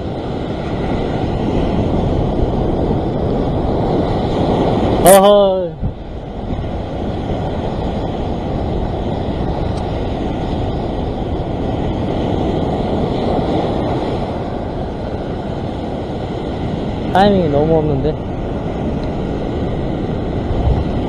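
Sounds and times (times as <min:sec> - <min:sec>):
heavy surf on rocks: 0:00.0 - 0:21.0.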